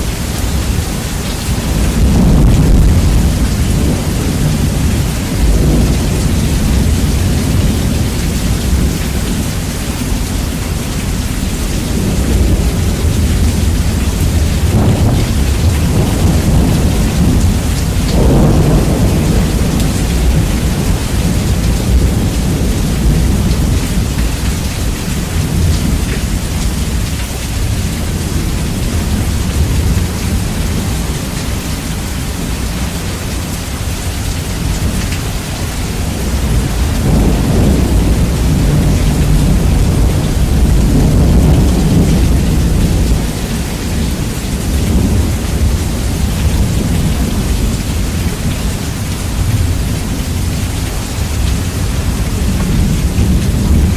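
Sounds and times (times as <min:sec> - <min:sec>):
heavy rain: 0:00.0 - 0:53.9
rolling thunder: 0:00.0 - 0:53.9.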